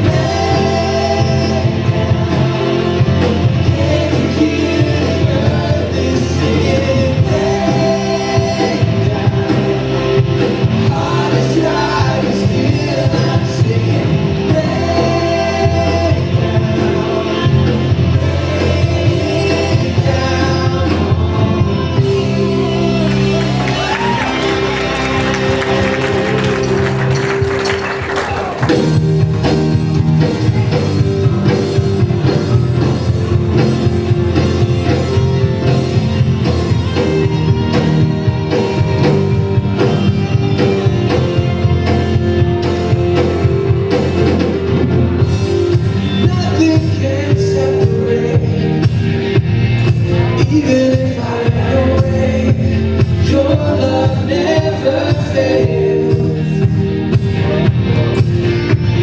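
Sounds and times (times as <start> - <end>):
drum kit beat: 0.0 - 59.0
guitar: 0.0 - 59.0
live band playing: 0.0 - 59.0.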